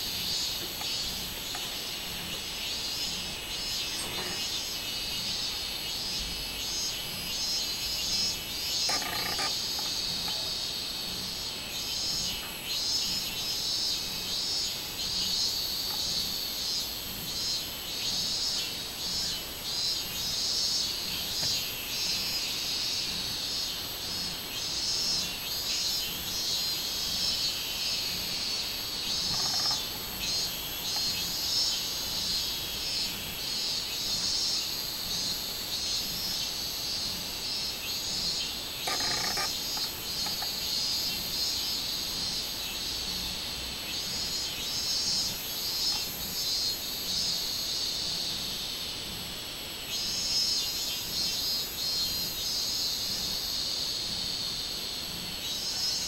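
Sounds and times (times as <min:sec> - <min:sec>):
cicadas chorus buzzing: 0:00.0 - 0:56.0.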